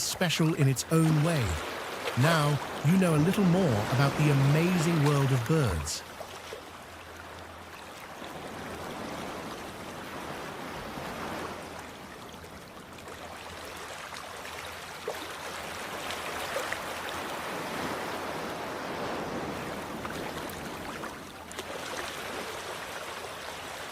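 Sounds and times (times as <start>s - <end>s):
rushing water-like noise: 0.0s - 23.9s.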